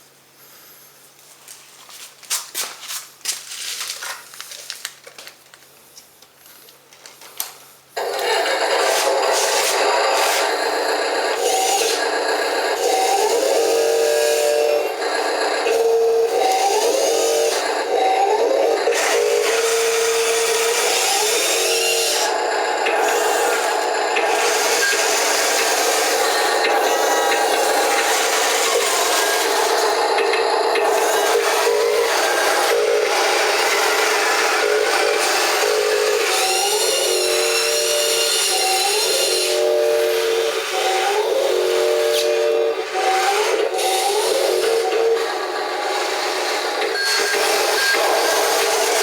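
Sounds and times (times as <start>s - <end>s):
loader motor whine: 8.0s - 49.0s.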